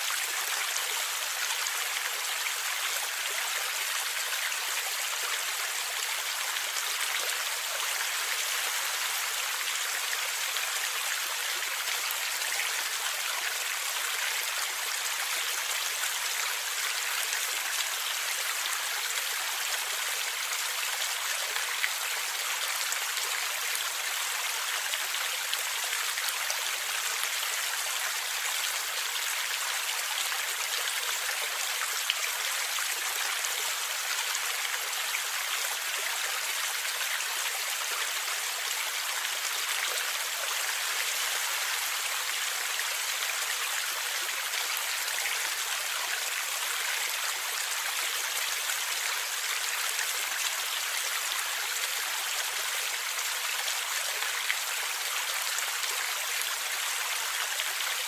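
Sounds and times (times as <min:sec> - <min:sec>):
stream flowing and gurgling: 0:00.0 - 0:58.0.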